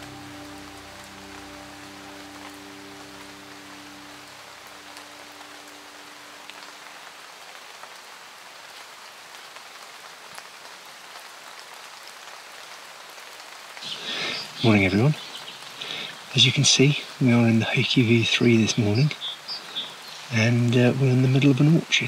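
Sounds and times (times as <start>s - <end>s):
raindrops pattering on fabric: 0.0s - 22.0s
steady pouring rain: 0.0s - 22.0s.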